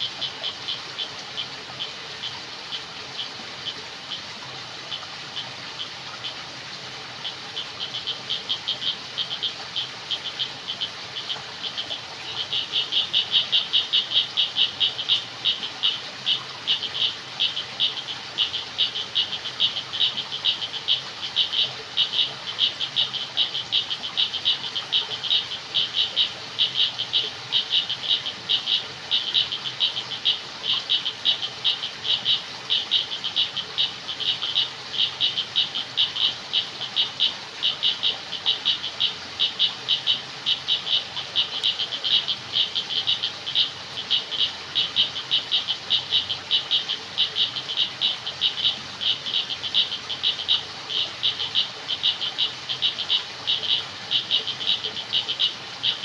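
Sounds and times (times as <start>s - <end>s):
faint background hiss: 0.0s - 56.0s
frogs calling in pulsed trills: 0.0s - 56.0s.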